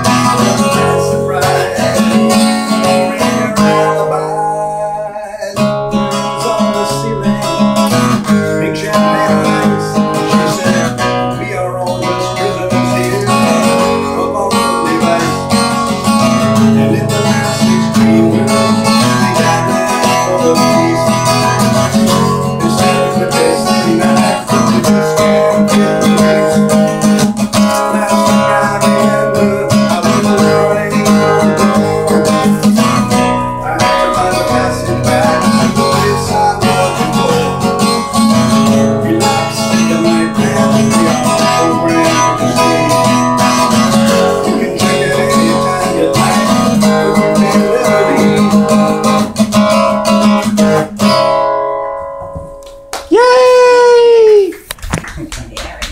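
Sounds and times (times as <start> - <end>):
acoustic guitar strumming: 0.0 - 54.2.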